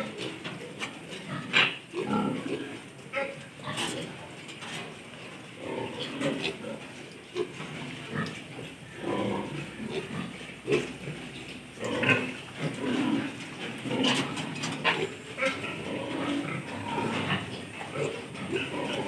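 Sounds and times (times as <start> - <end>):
piglets grunting: 1.2 - 4.2, 5.6 - 19.0.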